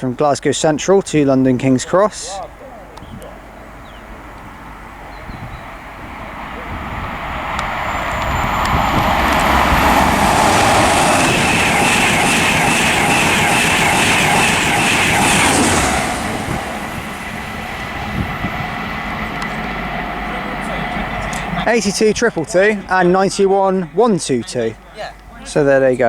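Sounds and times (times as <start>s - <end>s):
train passing at speed: 0.0s - 26.0s
rhythmic clatter of wheels: 2.2s - 26.0s.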